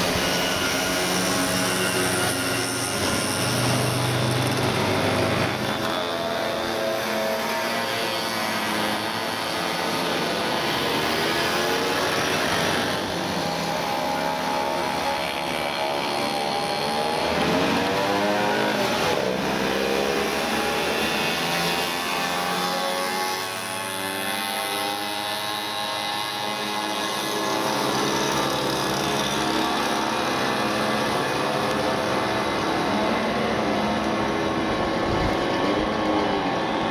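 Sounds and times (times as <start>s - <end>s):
mopeds riding past: 0.0s - 36.9s.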